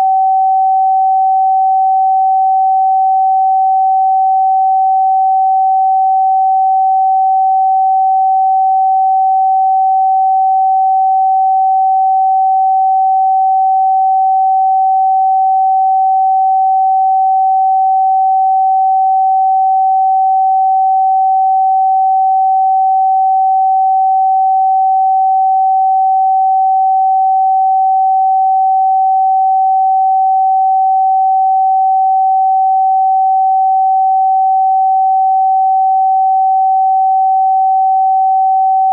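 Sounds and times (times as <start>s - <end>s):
pure sine tone: 0.0s - 38.9s.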